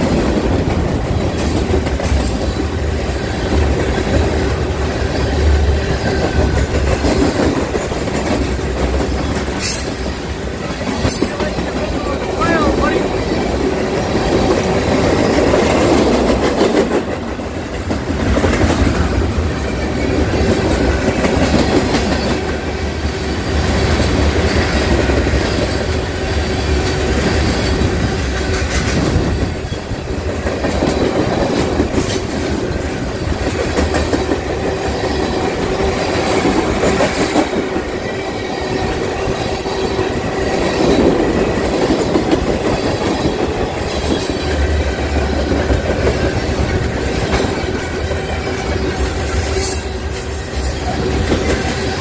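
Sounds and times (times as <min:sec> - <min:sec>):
train rumble: 0:00.0 - 0:52.0
train wheels clicking over rail joints: 0:00.0 - 0:52.0.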